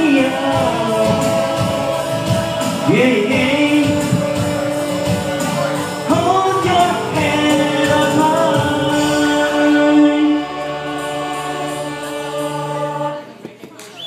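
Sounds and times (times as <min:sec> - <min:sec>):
man singing into a microphone: 0:00.0 - 0:13.5
backing music: 0:00.0 - 0:14.0.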